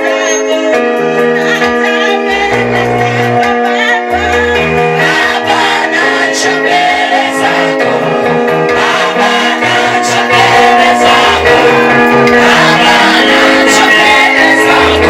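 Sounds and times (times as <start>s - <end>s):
group singing gospel music: 0.0s - 15.0s
instrumental backing with bass line: 0.0s - 15.0s.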